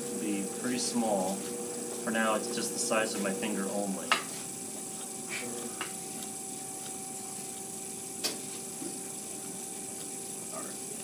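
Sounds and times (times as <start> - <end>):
pottery wheel humming: 0.0 - 11.0.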